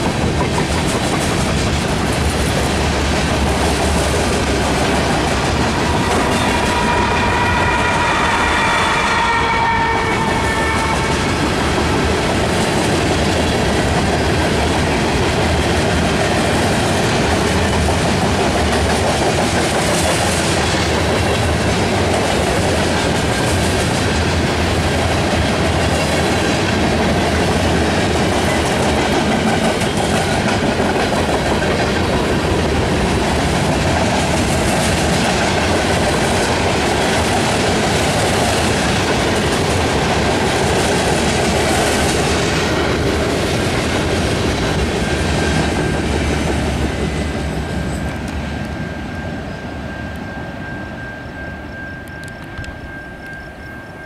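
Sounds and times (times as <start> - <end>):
freight train wheels clacking over rails: 0.0 - 54.0.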